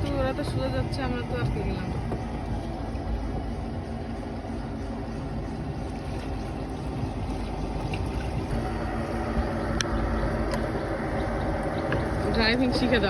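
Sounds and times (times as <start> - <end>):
boat motor humming: 0.0 - 13.0
water noise: 0.0 - 13.0.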